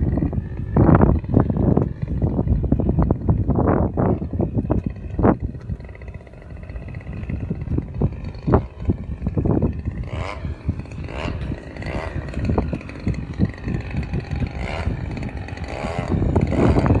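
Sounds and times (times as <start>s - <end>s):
model airplane engine in flight: 0.0s - 17.0s
wind buffeting microphone: 0.0s - 17.0s.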